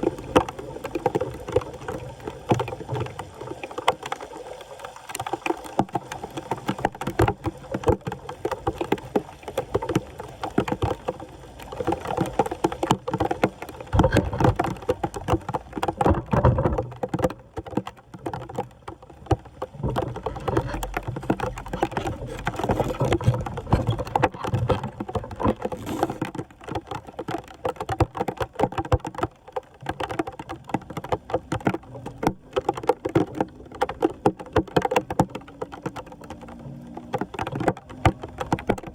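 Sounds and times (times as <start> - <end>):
floodwater splashing: 0.0 - 38.9.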